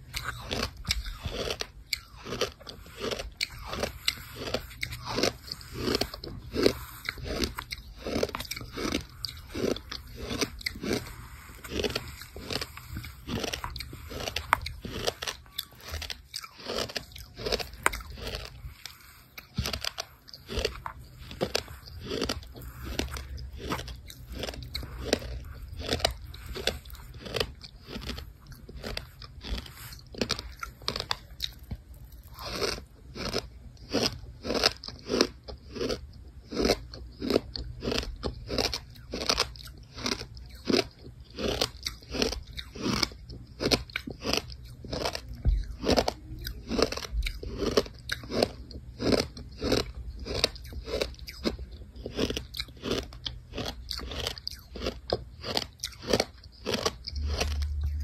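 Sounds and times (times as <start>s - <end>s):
gritty chewing crunches: 0.0s - 58.0s.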